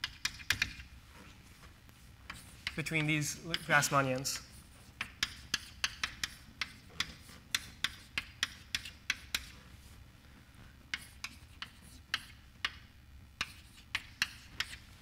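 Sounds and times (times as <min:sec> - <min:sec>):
chalk tapping and scratching: 0:00.0 - 0:09.9, 0:10.9 - 0:15.0.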